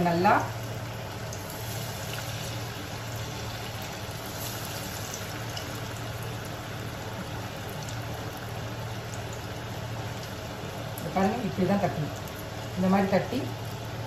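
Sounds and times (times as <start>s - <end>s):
food sizzling in hot oil: 0.0s - 14.0s
low steady hum: 0.0s - 14.0s.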